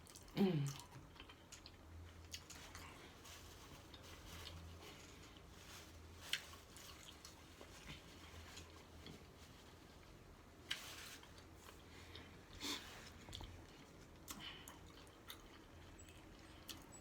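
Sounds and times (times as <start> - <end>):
faint chewing: 0.0 - 17.0.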